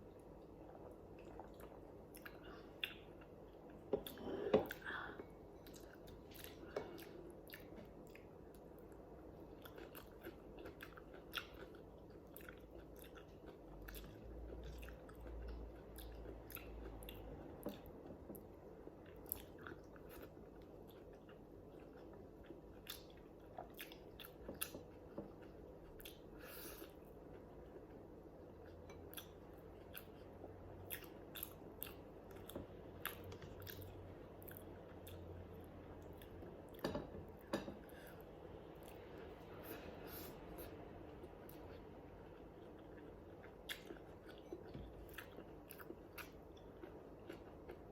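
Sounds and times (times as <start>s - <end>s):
chewing food: 5.6s - 36.8s, 38.8s - 47.9s.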